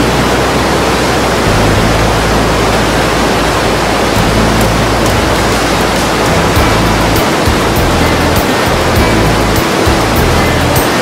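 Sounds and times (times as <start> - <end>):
low hum: 0.0 - 11.0
propane burner hissing: 0.0 - 11.0.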